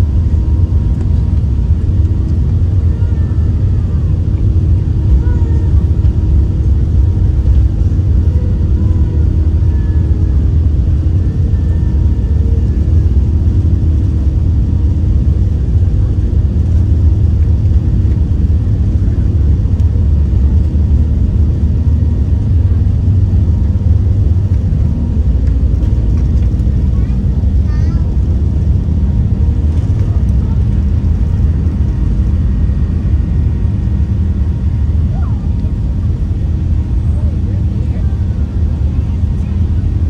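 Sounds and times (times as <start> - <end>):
airliner cabin engine rumble: 0.0 - 40.0.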